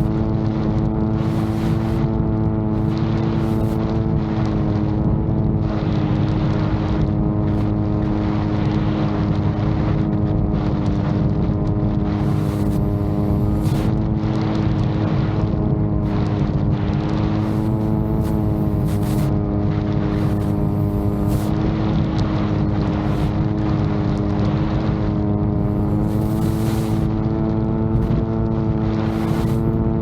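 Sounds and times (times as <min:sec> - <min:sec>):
drone propeller motor running: 0:00.0 - 0:30.0
wind buffeting microphone: 0:00.0 - 0:30.0.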